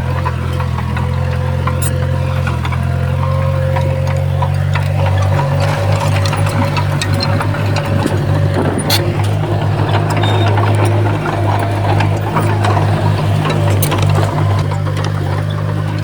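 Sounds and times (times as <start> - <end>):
bulldozer diesel engine running: 0.0 - 16.0
machine clanks and knocks: 0.0 - 16.0.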